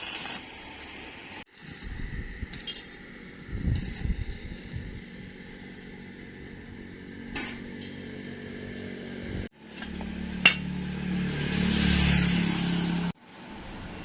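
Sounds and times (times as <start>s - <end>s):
mechanical engine-like hum: 0.8s - 14.0s.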